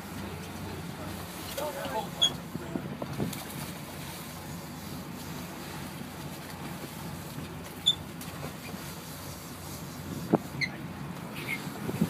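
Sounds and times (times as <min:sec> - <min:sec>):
boat engine rumbling: 0:00.0 - 0:12.0
water noise: 0:00.0 - 0:12.0
wind: 0:00.0 - 0:12.0.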